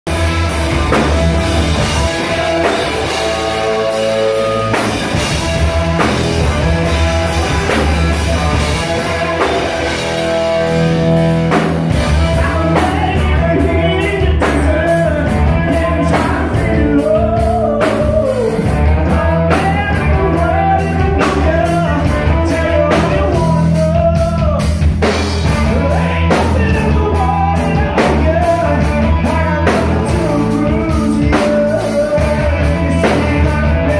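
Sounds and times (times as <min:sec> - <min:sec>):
distorted electric guitar: 0:00.0 - 0:33.9
drum kit: 0:00.0 - 0:33.9
electric bass: 0:00.0 - 0:33.9
man singing: 0:00.7 - 0:10.8, 0:11.9 - 0:33.9.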